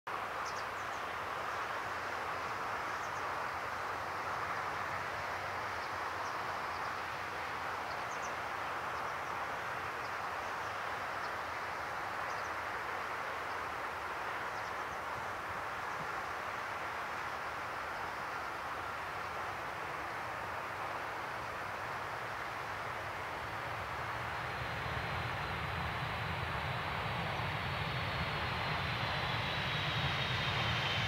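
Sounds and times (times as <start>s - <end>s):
steady outdoor rush of noise: 0.1s - 31.0s.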